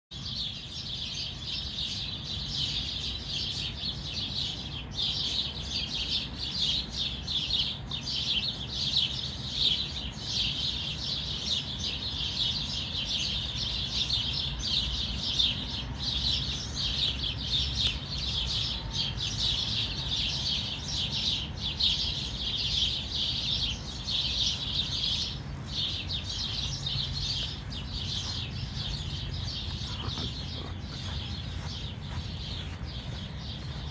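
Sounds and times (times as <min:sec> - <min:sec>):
chorus of rapid chirping: 0:00.1 - 0:33.9.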